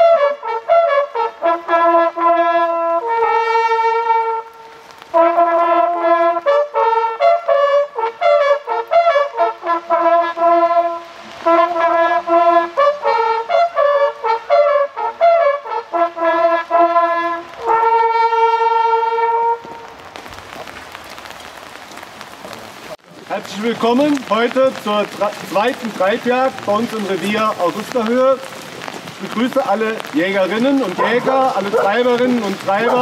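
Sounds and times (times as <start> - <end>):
hunting horns fanfare: 0.0 - 20.0, 23.7 - 33.0
rain patter: 0.0 - 33.0.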